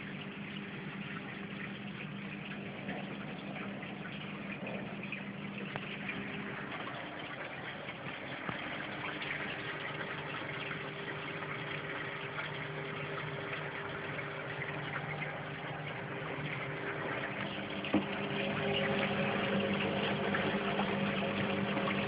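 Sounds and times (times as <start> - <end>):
low pump hum: 0.0 - 22.0.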